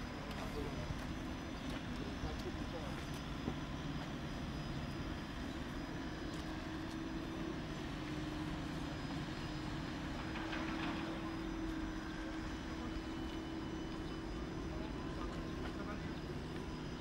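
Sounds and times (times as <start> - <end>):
tram electric hum: 0.0 - 17.0.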